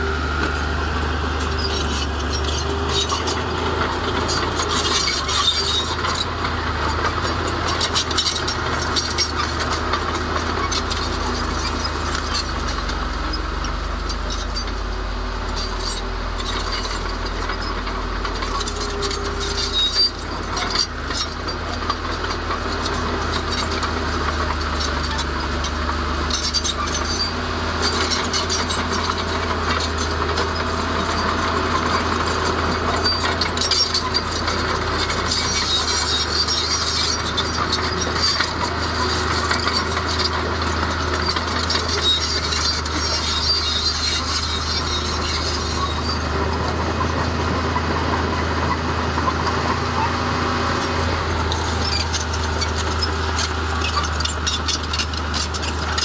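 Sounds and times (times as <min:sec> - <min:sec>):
diesel engine under load: 0:00.0 - 0:56.0
steel tracks rattling and squealing: 0:00.0 - 0:56.0.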